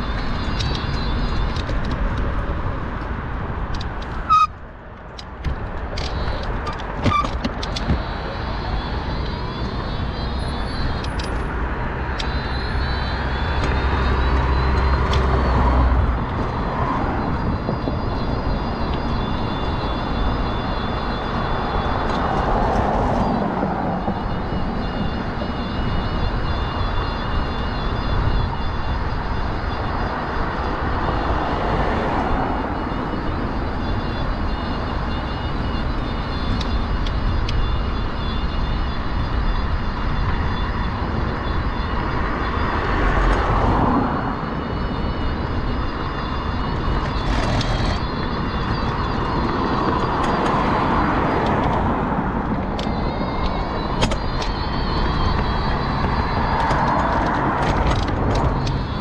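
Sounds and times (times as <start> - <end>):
cars passing: 0.0 - 59.0
mobility scooter motor whine: 0.0 - 59.0.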